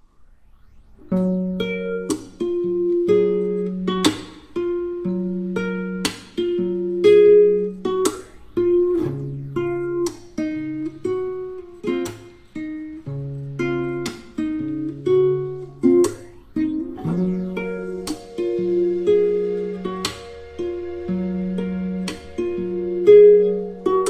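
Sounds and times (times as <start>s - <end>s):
acoustic guitar strumming chords: 1.3s - 24.0s.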